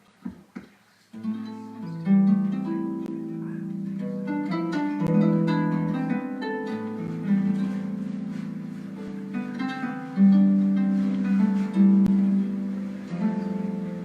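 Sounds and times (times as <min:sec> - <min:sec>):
plucked harp notes: 0:01.2 - 0:14.0.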